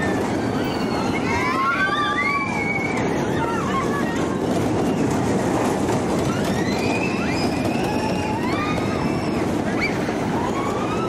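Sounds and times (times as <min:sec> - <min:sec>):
ride rumbling: 0:00.0 - 0:11.0.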